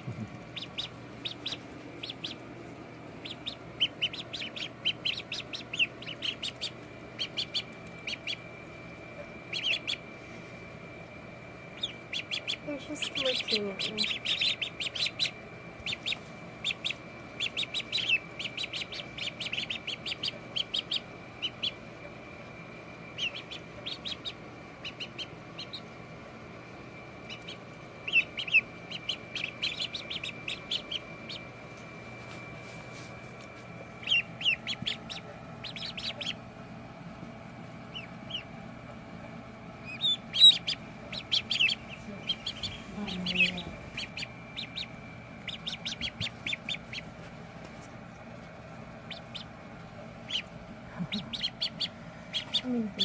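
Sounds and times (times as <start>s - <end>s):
ducklings peeping: 0.0s - 53.0s.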